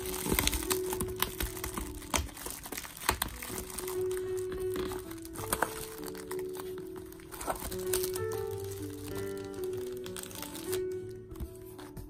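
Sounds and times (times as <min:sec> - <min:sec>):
plastic wrap crinkling: 0:00.0 - 0:12.0
soft background music: 0:00.0 - 0:12.0.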